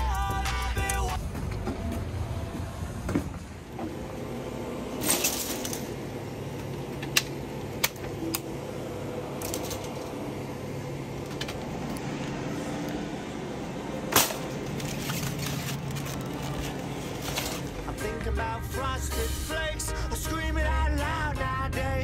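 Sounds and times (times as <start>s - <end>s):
store hum: 0.0s - 22.0s.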